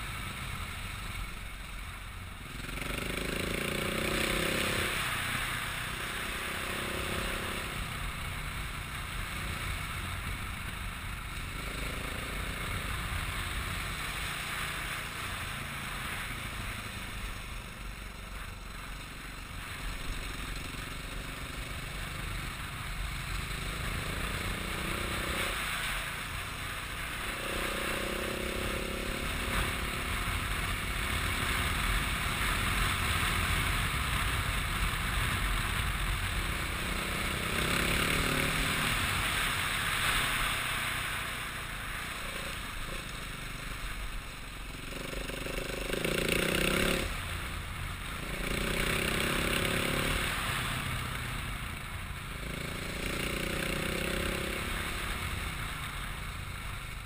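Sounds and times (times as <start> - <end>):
road and wind noise: 0.0 - 57.0
vehicle engine: 0.0 - 57.0.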